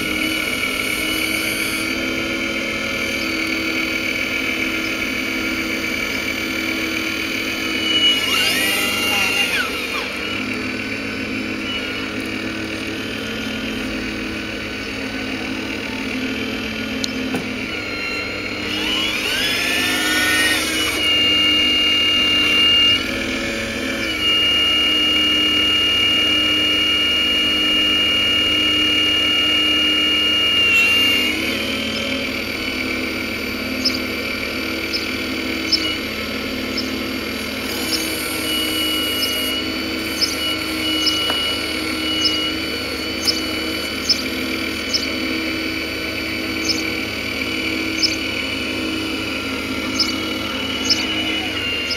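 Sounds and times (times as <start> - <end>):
model excavator motor whine: 0.0 - 51.9.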